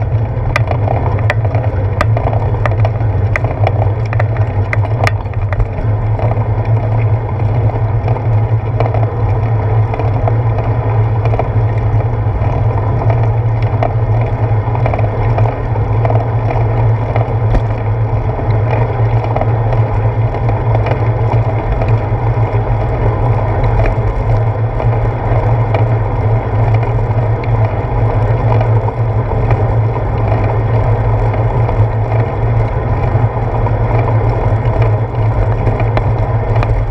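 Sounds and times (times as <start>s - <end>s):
bicycle tyres rumbling on wet path: 0.0s - 36.9s.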